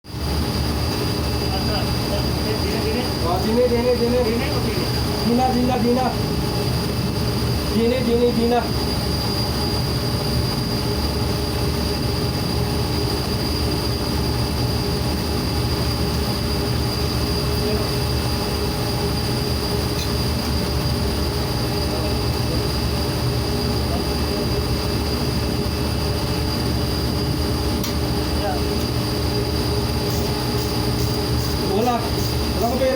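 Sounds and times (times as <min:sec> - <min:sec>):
high-pitched machine whine: 0:00.1 - 0:32.9
industrial machinery drone: 0:00.1 - 0:32.9.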